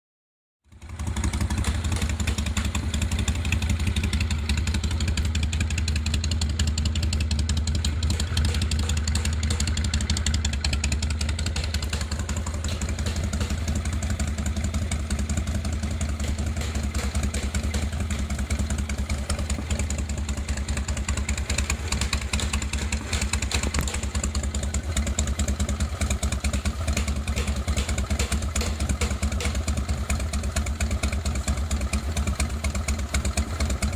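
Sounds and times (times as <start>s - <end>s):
motorcycle engine idling: 0.7s - 33.9s.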